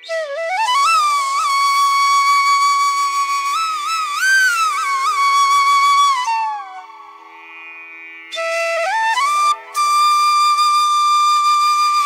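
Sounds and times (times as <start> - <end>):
flute melody: 0.0 - 7.4, 8.3 - 12.0.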